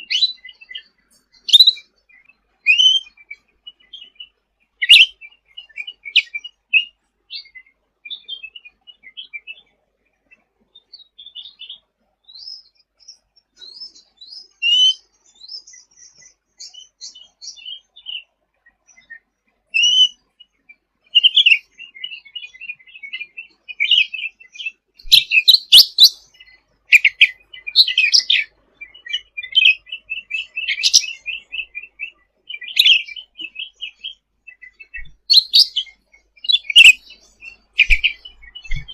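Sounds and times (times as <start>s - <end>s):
songbird chattering and trilling: 0.0s - 9.6s, 10.3s - 38.9s.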